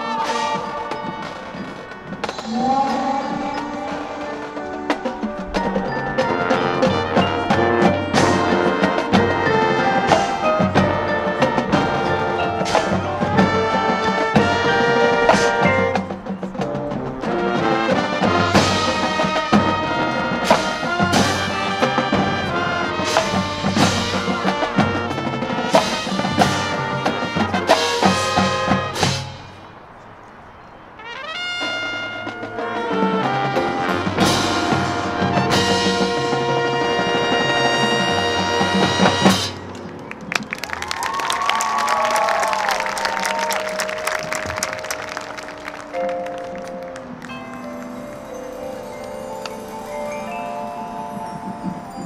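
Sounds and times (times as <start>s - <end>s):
marching band playing: 0.0s - 52.0s.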